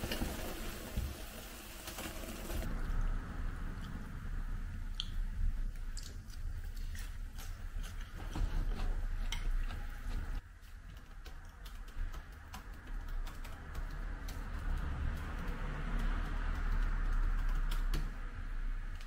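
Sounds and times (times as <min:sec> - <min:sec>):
low steady hum: 0:02.2 - 0:19.0.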